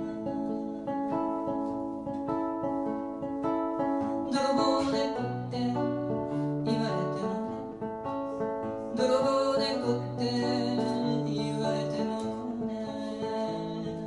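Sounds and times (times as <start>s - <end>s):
woman singing: 0.0s - 2.1s, 3.8s - 14.0s
acoustic guitar picking: 0.0s - 14.0s.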